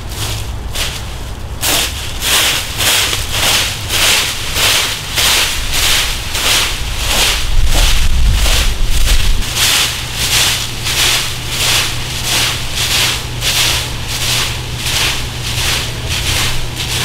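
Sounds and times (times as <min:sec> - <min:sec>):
rake sweeping dry leaves: 0:00.0 - 0:17.0.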